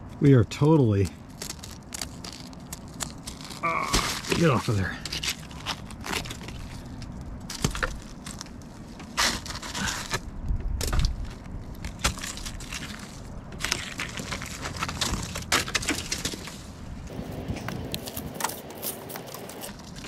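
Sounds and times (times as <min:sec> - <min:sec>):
ice crunching and scraping: 0:00.6 - 0:20.0.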